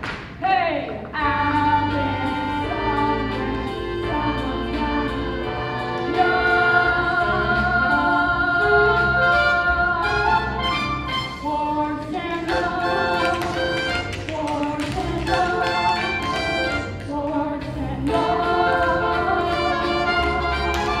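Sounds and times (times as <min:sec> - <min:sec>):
chorus singing show tune: 0:00.4 - 0:21.0
instrumental accompaniment: 0:01.2 - 0:21.0.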